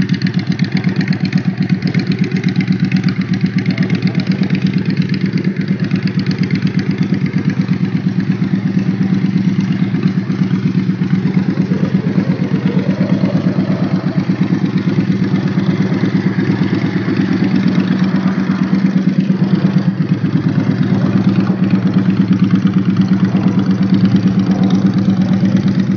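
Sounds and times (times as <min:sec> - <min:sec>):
motorcycle engine idling: 0:00.0 - 0:25.9.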